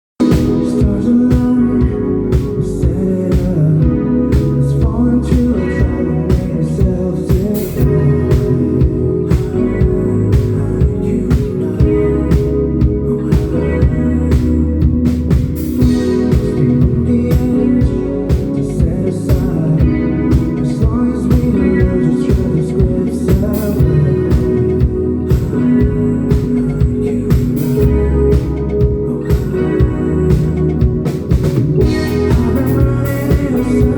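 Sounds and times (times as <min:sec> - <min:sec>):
drums keeping steady beat: 0:00.2 - 0:33.9
live band music: 0:00.2 - 0:33.9
person singing: 0:00.2 - 0:33.9.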